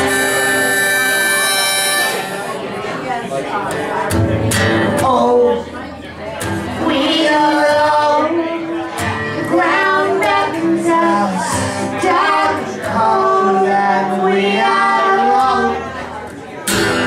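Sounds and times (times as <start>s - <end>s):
music: 0.0s - 2.6s, 3.7s - 17.0s.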